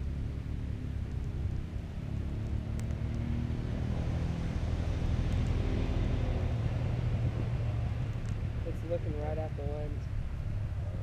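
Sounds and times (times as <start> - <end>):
low humming rumble: 0.0 - 11.0.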